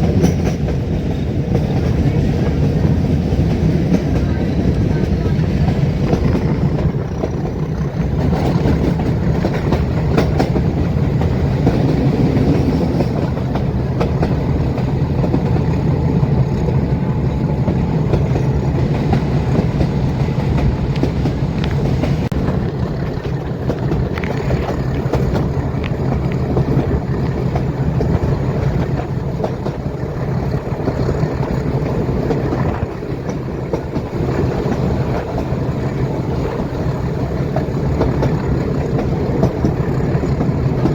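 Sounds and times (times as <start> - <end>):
train rumbling: 0.0 - 40.9
wheels clattering over rail joints: 0.0 - 40.9.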